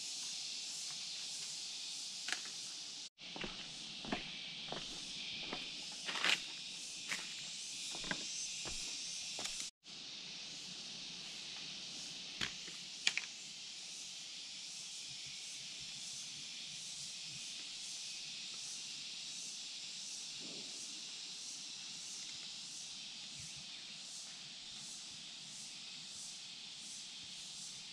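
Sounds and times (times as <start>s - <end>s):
high-pitched outdoor hiss: 0.0s - 27.9s.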